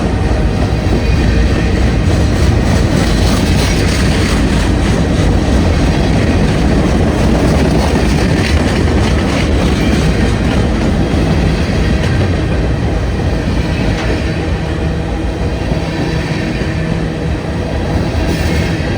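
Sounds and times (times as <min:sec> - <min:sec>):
freight train wheels rumbling: 0:00.0 - 0:18.9.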